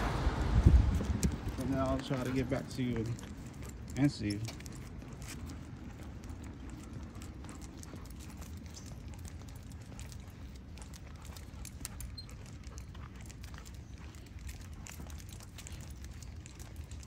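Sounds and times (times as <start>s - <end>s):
faint footsteps on pavement: 0.0s - 17.0s
steady low rumble: 0.0s - 17.0s.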